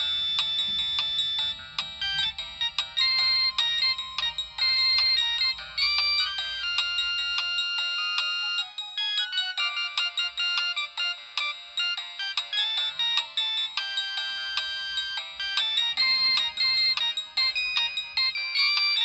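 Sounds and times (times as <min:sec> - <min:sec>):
polyphonic ringtone melody: 0:00.0 - 0:19.0.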